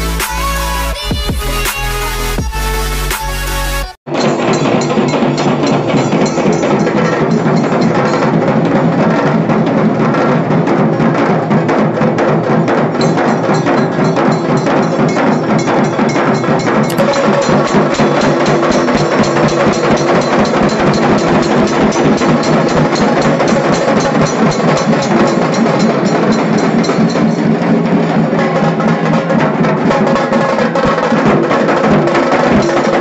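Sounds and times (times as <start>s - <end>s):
drum ensemble playing: 4.1s - 33.0s.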